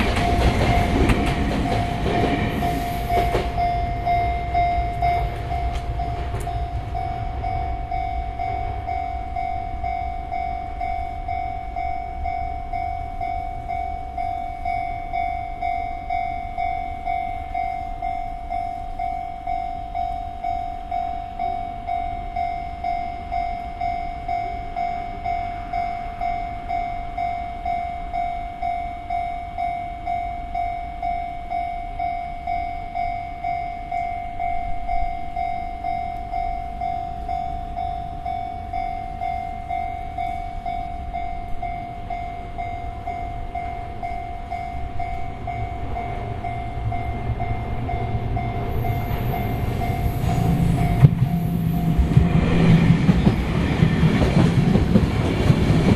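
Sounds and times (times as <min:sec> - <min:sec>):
level crossing warning bell: 0:00.0 - 0:55.9
train rumble: 0:00.0 - 0:55.9.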